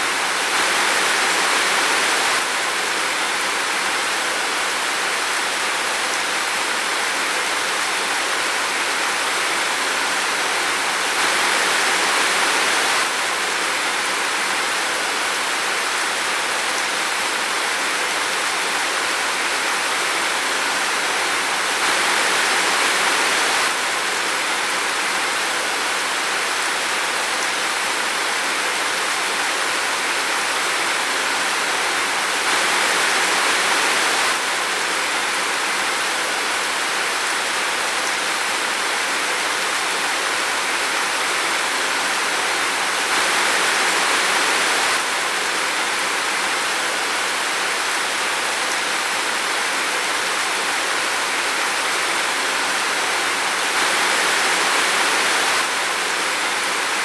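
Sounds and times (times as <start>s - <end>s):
rain falling in forest: 0.0s - 57.0s.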